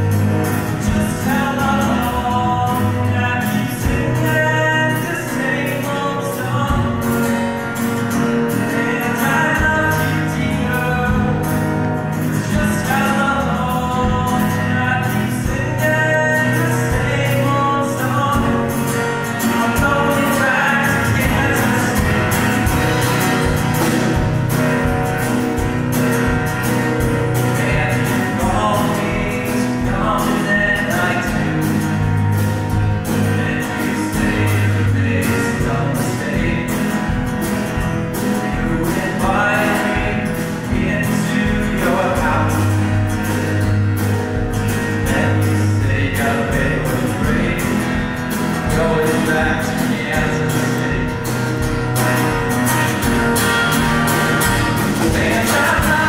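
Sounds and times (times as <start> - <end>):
drum kit beat: 0.0 - 5.9, 6.5 - 56.0
man singing into a microphone: 0.0 - 43.9, 44.6 - 56.0
acoustic guitar: 0.0 - 56.0
electric guitar: 0.0 - 56.0
upright bass: 0.0 - 56.0.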